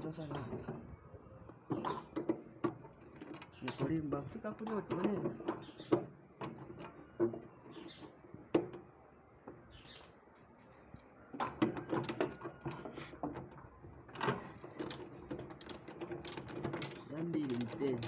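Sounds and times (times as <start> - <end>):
irregular clicks and knocks: 1.4 - 18.0.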